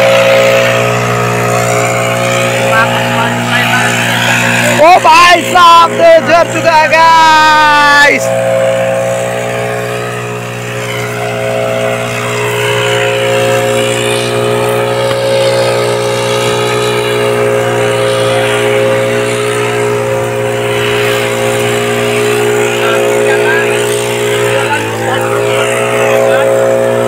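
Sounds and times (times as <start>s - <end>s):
leaf blower engine running: 0.0s - 27.0s.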